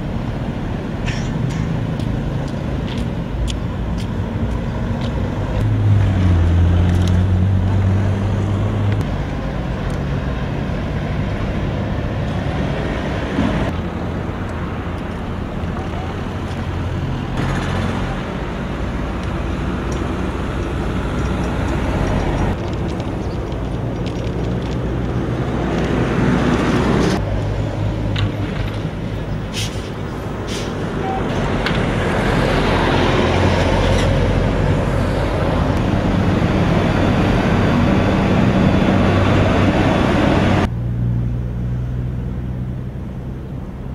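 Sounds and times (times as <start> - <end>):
low engine hum: 0.0 - 43.9
road traffic: 0.0 - 43.9.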